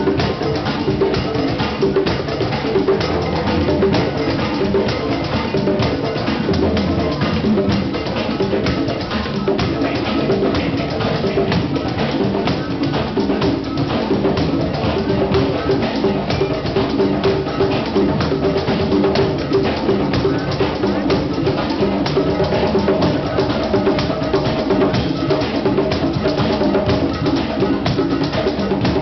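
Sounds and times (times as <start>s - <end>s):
hand drums playing: 0.0s - 29.0s.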